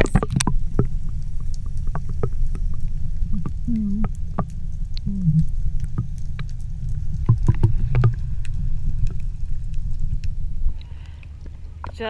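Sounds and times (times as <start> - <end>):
underwater clicks and pops: 0.0 - 11.0
muffled underwater rumble: 0.0 - 12.0.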